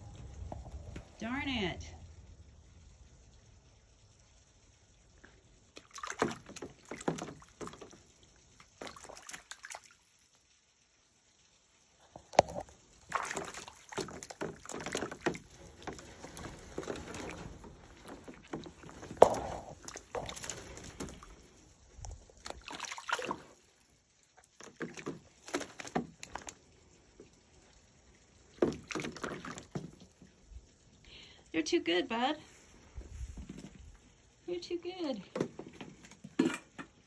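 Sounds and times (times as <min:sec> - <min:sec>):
water sloshing and splashing: 0:00.0 - 0:10.6, 0:11.4 - 0:31.0, 0:32.5 - 0:37.0.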